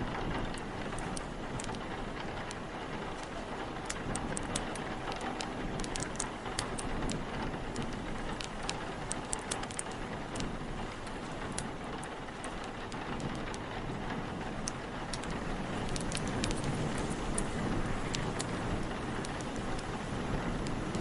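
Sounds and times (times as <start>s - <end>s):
steady rain hiss: 0.0s - 21.0s
wood fire crackling: 0.0s - 21.0s.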